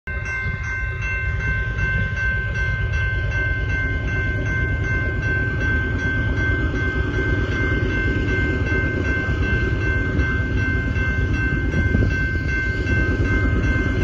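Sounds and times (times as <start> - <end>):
diesel locomotive low rumble: 0.0 - 14.0
pulsing high-toned ringing: 0.1 - 14.0.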